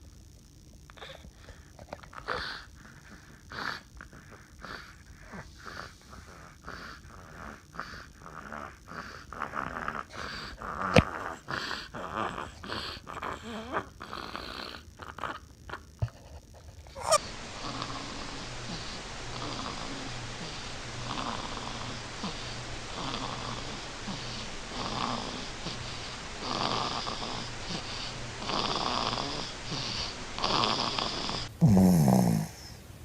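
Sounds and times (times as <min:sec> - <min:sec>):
baby snoring: 0:01.0 - 0:15.9, 0:16.9 - 0:32.8.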